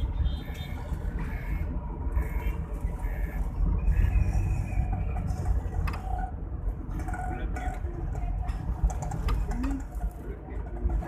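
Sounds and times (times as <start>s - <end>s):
faint traffic: 0.0s - 11.0s
vehicle engine and tyres rumble: 0.0s - 11.0s.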